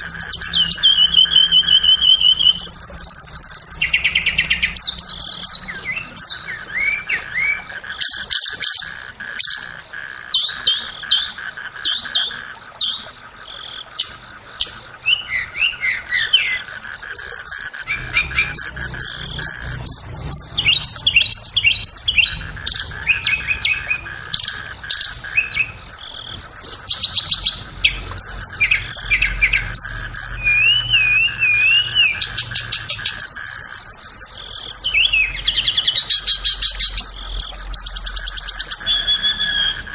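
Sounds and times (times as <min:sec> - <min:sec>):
bird song with high chips and trills: 0:00.0 - 0:39.9
faint steady drone: 0:00.0 - 0:39.9.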